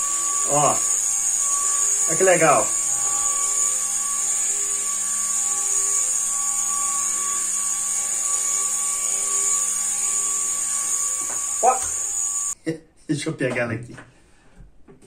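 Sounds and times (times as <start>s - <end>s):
mini drone motors whining: 0.0s - 12.6s.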